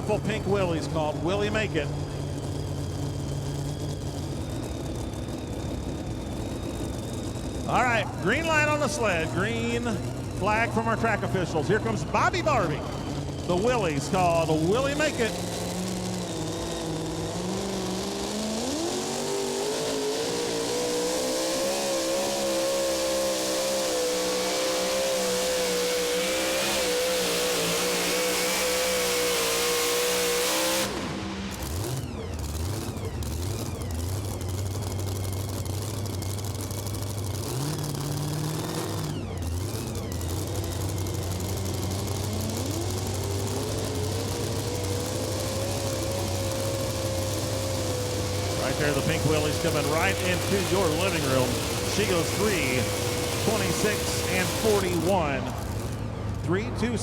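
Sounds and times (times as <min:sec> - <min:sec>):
truck engine at full throttle: 0:00.0 - 0:57.0.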